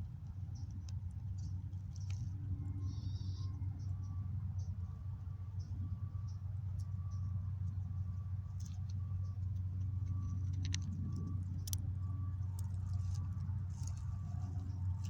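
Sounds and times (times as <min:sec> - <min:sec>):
squirrel chewing peanuts: 0:00.0 - 0:15.0
steady low hum: 0:00.0 - 0:15.0.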